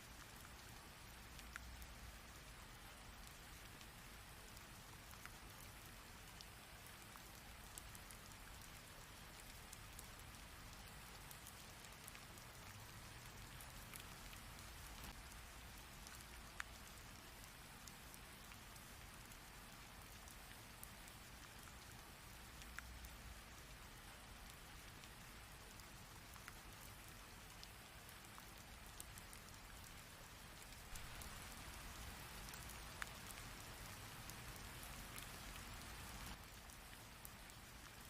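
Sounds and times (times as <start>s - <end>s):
rain hiss: 0.0s - 38.0s.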